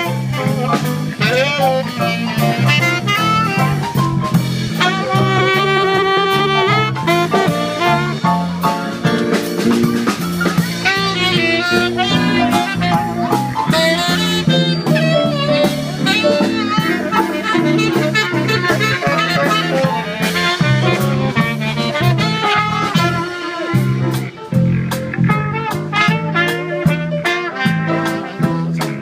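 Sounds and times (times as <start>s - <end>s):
drum kit: 0.0s - 29.0s
electric bass: 0.0s - 29.0s
keyboard: 0.0s - 29.0s
saxophone melody: 0.0s - 29.0s.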